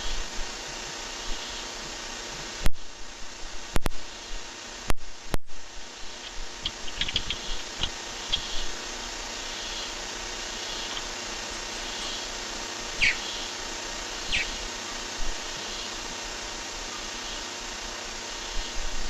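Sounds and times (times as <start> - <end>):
microphone hiss: 0.0 - 19.0.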